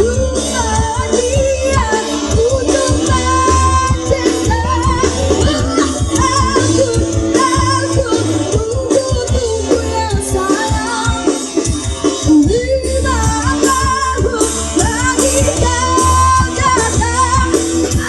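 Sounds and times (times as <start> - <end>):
pop song with singing: 0.0 - 18.0.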